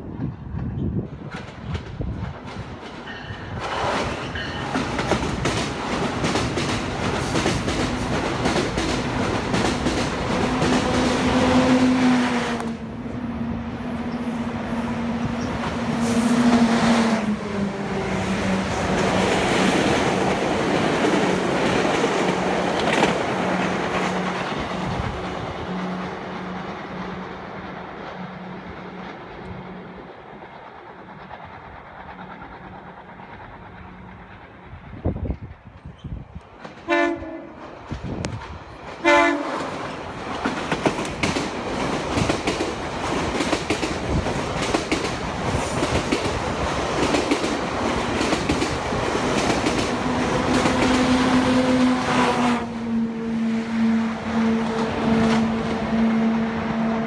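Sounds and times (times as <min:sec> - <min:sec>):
train wheels rumbling and rattling: 0:00.0 - 0:52.7.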